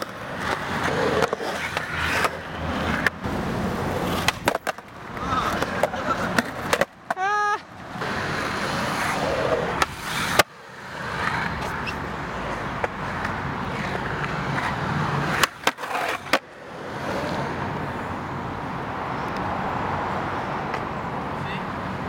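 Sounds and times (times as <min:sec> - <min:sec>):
skateboard clacking: 0:00.0 - 0:17.8, 0:20.6 - 0:20.9
skateboard wheels rolling on concrete: 0:00.0 - 0:22.0.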